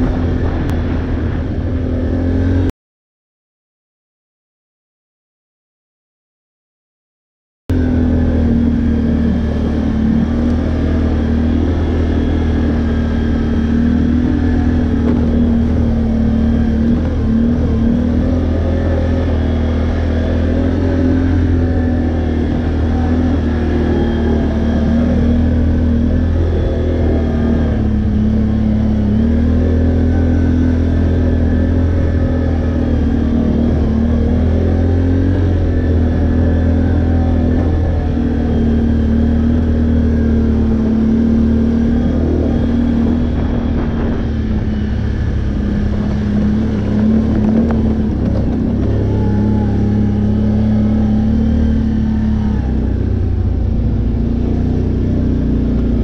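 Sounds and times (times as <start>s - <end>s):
atv engine running: 0.0s - 2.7s, 7.7s - 56.0s.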